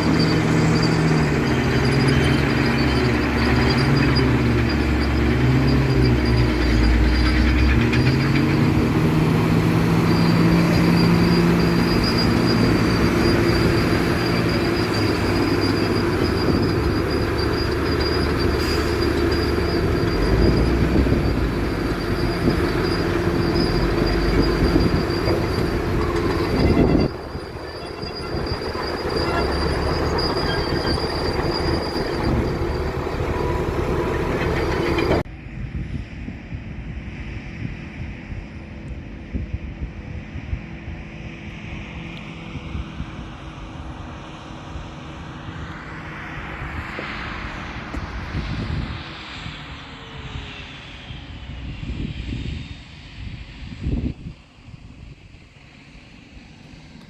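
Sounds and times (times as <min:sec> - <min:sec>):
diesel farm machinery running: 0:00.0 - 0:52.6.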